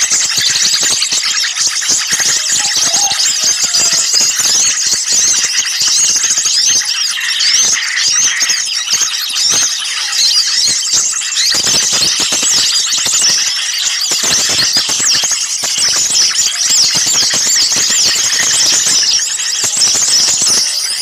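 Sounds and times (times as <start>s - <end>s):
chorus of small birds chirping: 0.0s - 21.0s.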